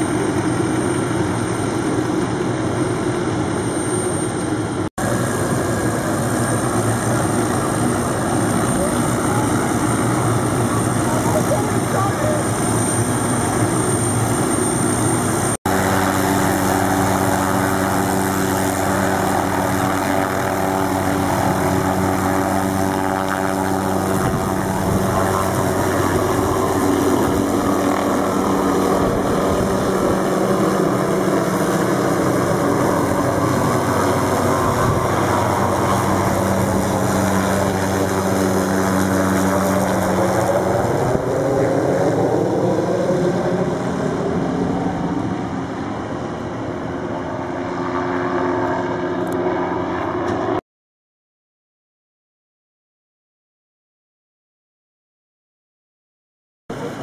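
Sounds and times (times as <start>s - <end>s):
helicopter turbine and rotor: 0.0s - 50.6s, 56.7s - 57.0s.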